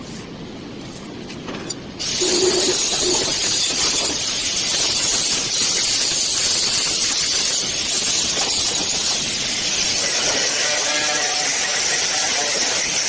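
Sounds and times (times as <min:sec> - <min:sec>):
angle grinder grinding steel: 0:02.0 - 0:13.0.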